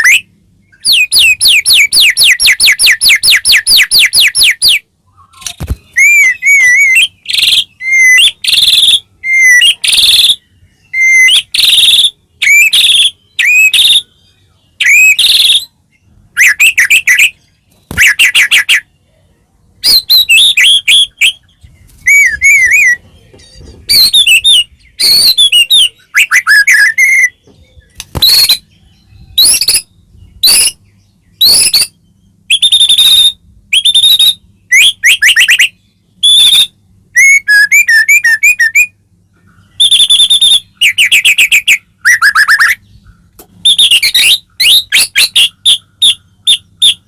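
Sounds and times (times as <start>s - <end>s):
bird singing varied song: 0.0s - 47.0s.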